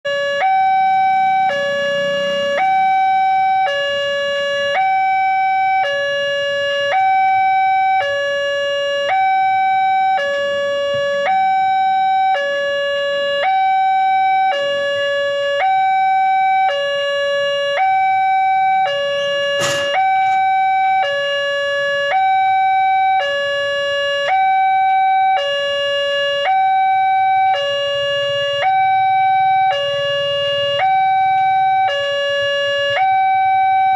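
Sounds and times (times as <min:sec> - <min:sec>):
level crossing alarm two-tone: 0:00.1 - 0:33.9.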